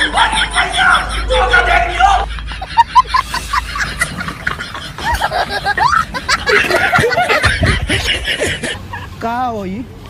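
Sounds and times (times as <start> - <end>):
people chattering: 0.0 - 9.2
people giggling and laughing: 0.0 - 9.2.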